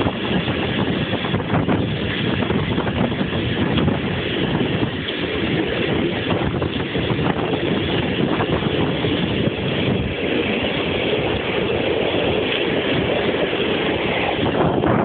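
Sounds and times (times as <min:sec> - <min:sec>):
train rumbling on rails: 0:00.0 - 0:15.0
wind on microphone: 0:00.0 - 0:15.0.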